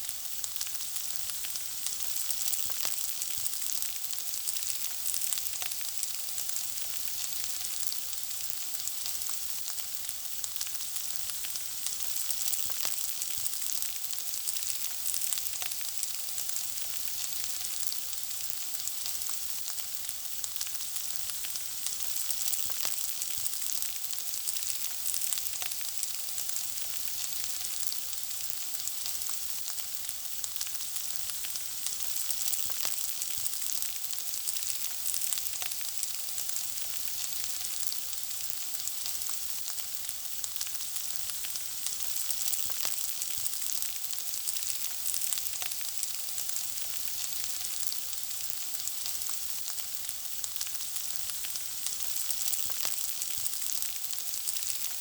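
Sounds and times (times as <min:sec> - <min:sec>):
food sizzling in frying: 0:00.0 - 0:55.0.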